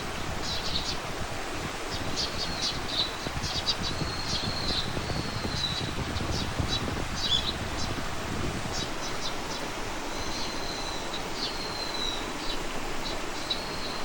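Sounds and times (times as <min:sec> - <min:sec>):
small songbirds chirping: 0:00.4 - 0:14.0.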